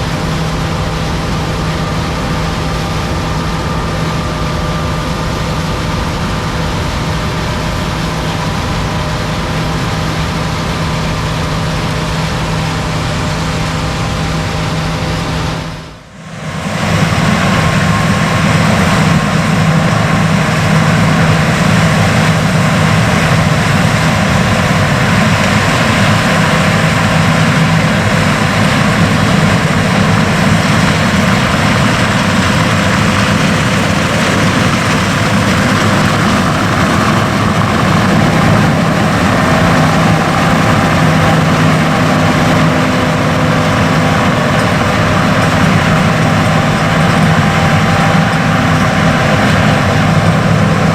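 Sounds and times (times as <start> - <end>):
diesel machinery engine drone: 0.0 - 50.9
high whine: 0.0 - 50.9.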